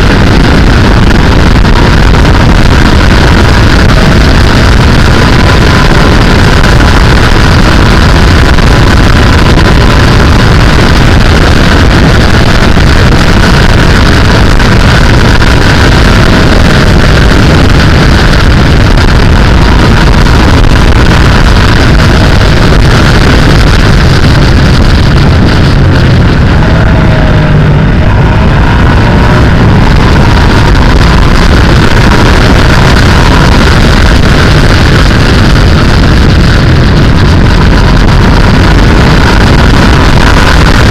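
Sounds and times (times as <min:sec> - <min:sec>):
faint engine whine: 0:00.0 - 0:40.9
motorcycle engine running: 0:00.0 - 0:40.9
wind rush on microphone: 0:00.0 - 0:40.9.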